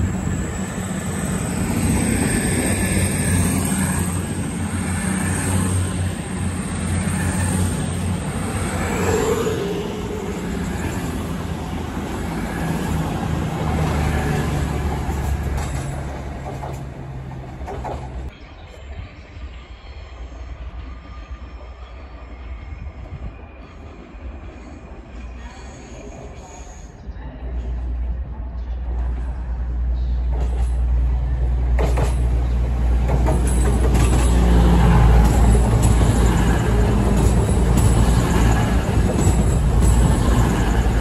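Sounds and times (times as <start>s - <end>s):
train wheels rumbling on rails: 0.0s - 18.3s, 22.5s - 41.0s.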